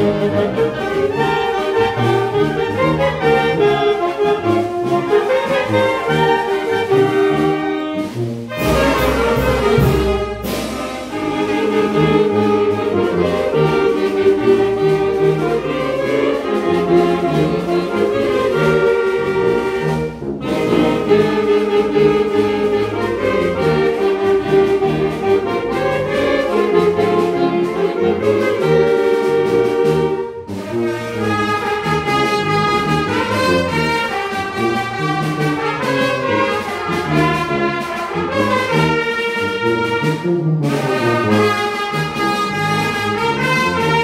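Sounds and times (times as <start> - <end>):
clarinets and saxophones melody: 0.0 - 44.0
trombone: 0.0 - 44.0.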